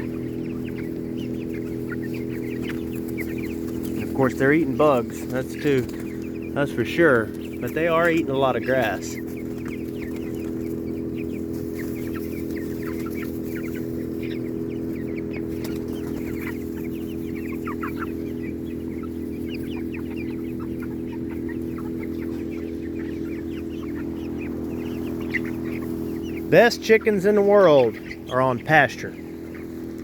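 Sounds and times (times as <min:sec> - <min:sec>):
low mechanical hum: 0:00.0 - 0:28.3, 0:29.1 - 0:30.0
chickens clucking: 0:00.0 - 0:30.0.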